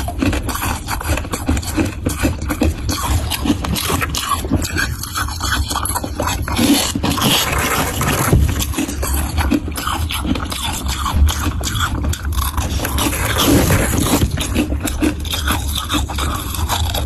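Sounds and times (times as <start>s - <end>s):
person chewing crunchy frost: 0.0s - 17.0s.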